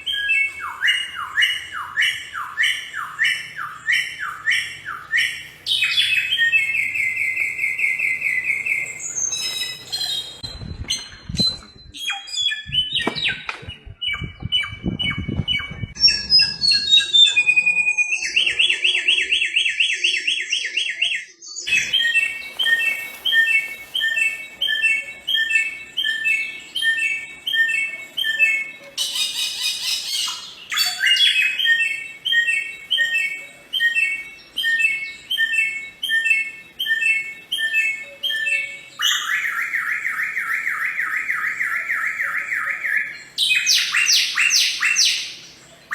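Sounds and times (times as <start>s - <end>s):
buzzy bird trill: 0.0s - 20.8s, 21.6s - 45.9s
bird singing whistles and trills: 0.0s - 45.9s.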